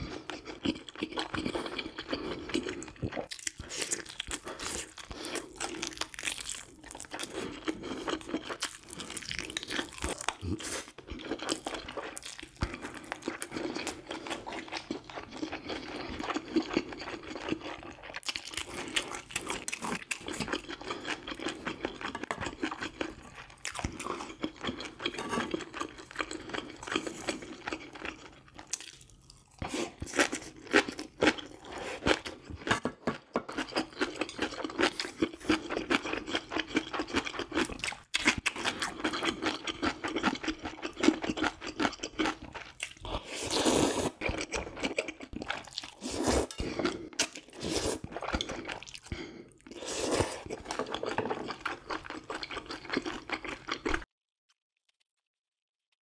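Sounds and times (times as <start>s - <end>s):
person chewing and crunching food: 0.0s - 54.1s.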